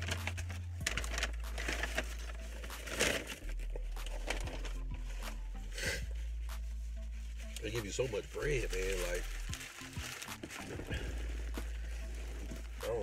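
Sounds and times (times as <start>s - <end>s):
paper bag and wrappers crinkling: 0.0s - 6.3s, 7.0s - 13.0s.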